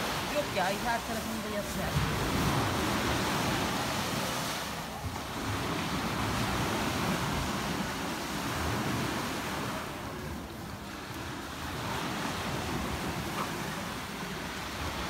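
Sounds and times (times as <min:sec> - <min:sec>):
sea surf breaking on shore: 0:00.0 - 0:15.0
wind buffeting microphone: 0:00.0 - 0:15.0.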